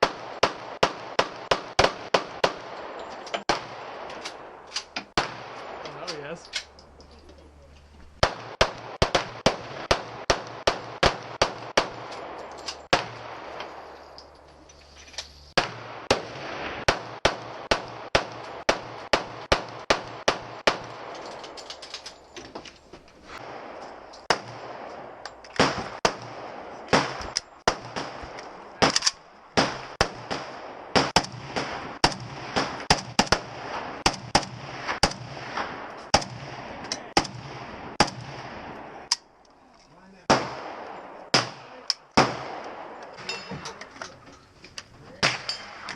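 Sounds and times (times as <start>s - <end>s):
gunshots: 0.0s - 6.8s, 8.2s - 14.0s, 15.5s - 21.8s, 23.3s - 39.3s, 40.0s - 43.3s, 45.1s - 45.9s.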